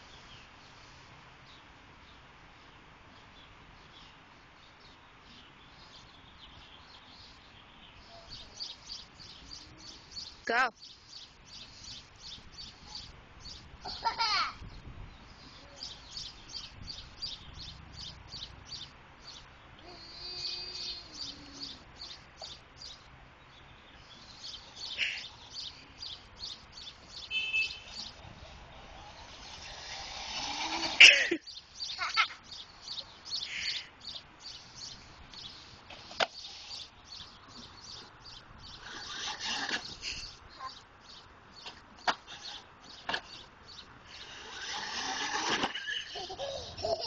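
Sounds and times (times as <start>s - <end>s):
bird chirping: 3.1s - 47.0s.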